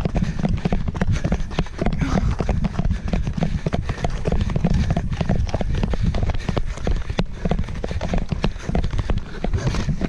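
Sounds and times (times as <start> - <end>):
running footsteps on sandy dirt: 0.0 - 10.0.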